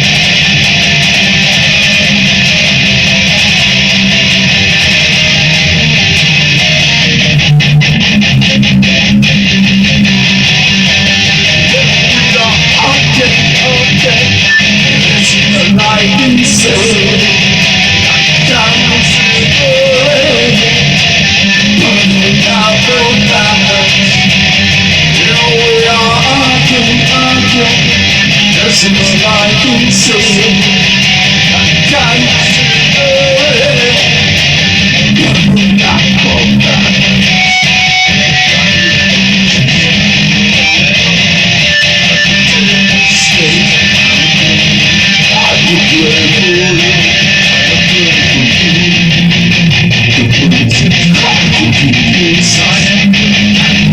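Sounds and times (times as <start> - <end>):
distorted electric guitar playing: 0.0 - 53.9.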